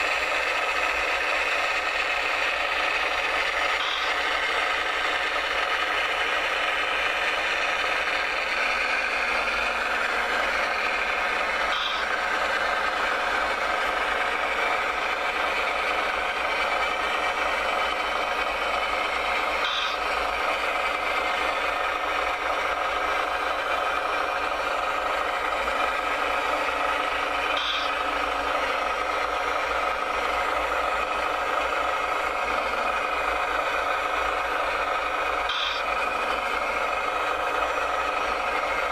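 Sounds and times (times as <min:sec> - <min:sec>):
model motors whirring and rattling: 0:00.0 - 0:38.9.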